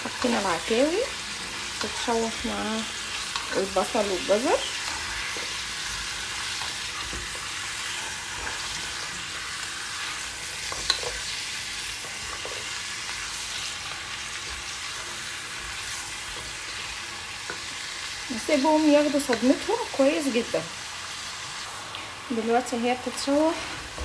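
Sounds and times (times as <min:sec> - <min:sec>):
meat sizzling in a frying pan: 0:00.0 - 0:24.0.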